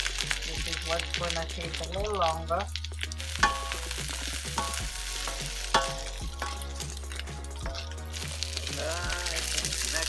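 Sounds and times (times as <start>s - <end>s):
snow peas sizzling in oil: 0.0s - 10.0s.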